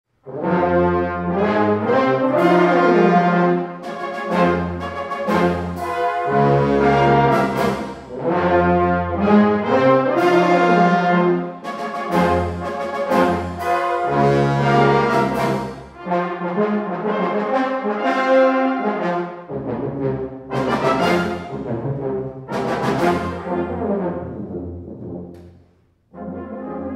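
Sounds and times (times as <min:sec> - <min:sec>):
brass band playing chords: 0:00.2 - 0:25.3, 0:26.1 - 0:26.9.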